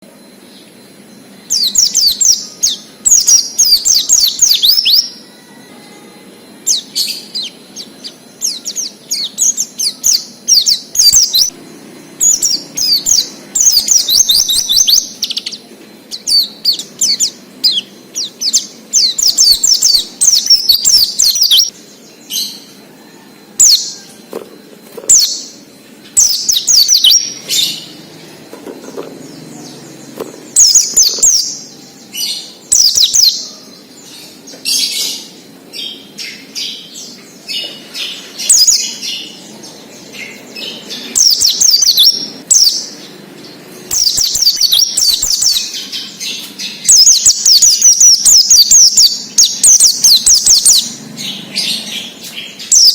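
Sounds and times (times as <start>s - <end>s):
bird twittering chirps: 0.0s - 52.9s.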